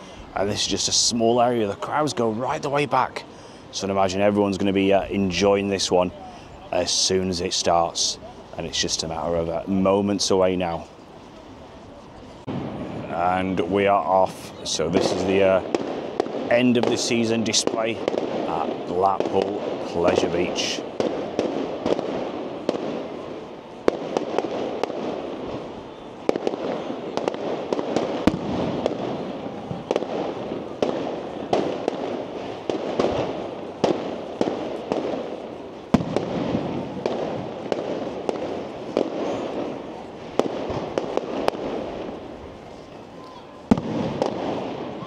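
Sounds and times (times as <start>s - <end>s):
fireworks bangs: 0.0s - 45.0s
fireworks crackle: 0.0s - 45.0s.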